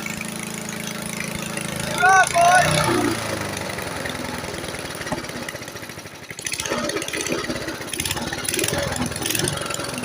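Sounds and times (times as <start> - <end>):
lawn mower engine running unevenly: 0.0 - 10.0.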